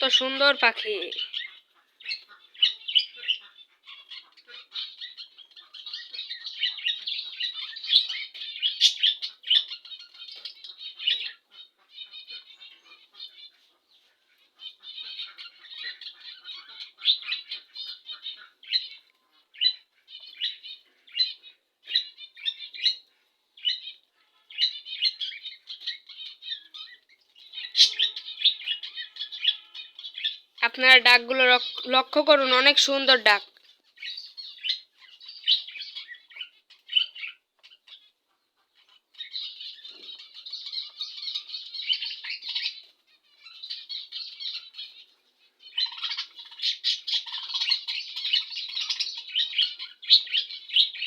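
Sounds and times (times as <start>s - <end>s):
budgerigars chattering: 0.0s - 51.0s.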